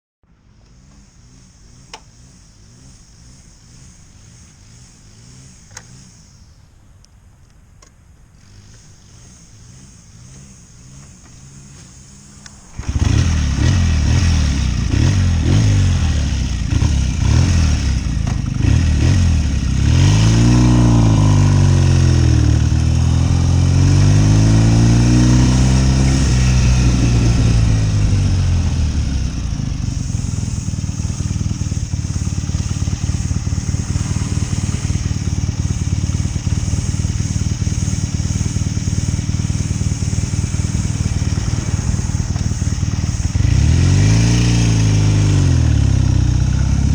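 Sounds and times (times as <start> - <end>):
motorcycle engine revving: 0.3 - 7.4, 8.0 - 46.9
hiss: 0.5 - 6.9, 8.3 - 46.9.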